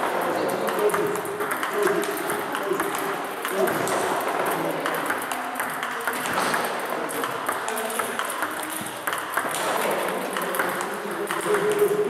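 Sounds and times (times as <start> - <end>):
table tennis balls clicking: 0.0 - 12.0.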